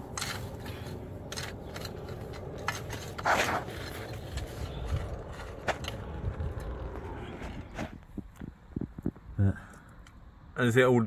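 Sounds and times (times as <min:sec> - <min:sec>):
rubble scraping and knocking: 0:00.0 - 0:09.2.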